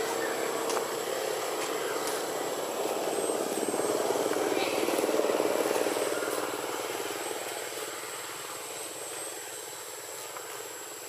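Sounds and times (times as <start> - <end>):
motor engine pulsing: 0.0 - 10.1.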